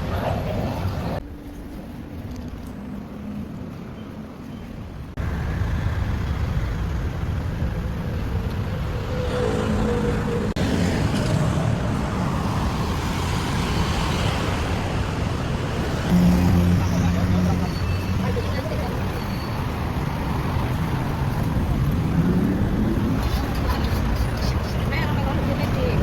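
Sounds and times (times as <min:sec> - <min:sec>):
rumble of passing cars: 0:00.0 - 0:26.0.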